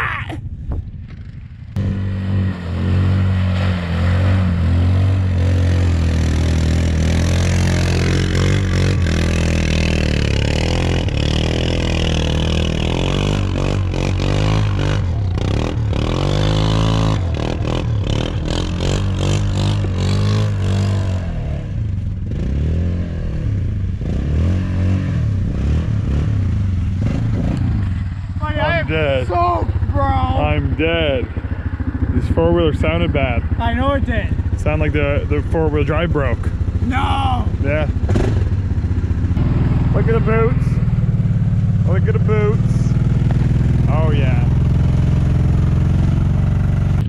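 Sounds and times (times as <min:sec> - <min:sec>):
atv engine revving: 0:01.0 - 0:47.0.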